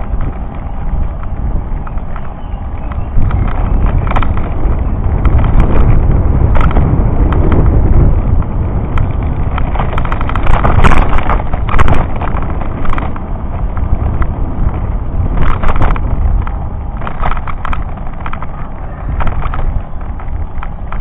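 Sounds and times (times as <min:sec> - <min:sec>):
bicycle rattling: 0:00.0 - 0:21.0
wind rumble on microphone: 0:00.0 - 0:21.0.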